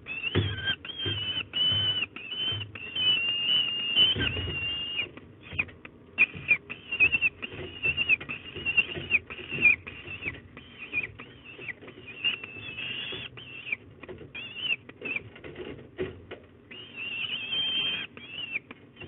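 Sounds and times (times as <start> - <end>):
falcons calling: 0.0 - 15.3, 16.7 - 19.0
sharp knocks and scratches: 0.0 - 19.0.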